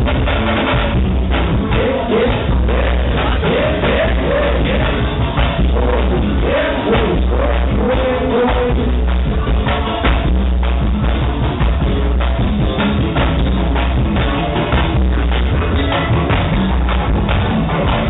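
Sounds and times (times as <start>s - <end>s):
drums and percussion: 0.0s - 18.0s
heavy bass: 0.0s - 18.0s
live band music: 0.0s - 18.0s.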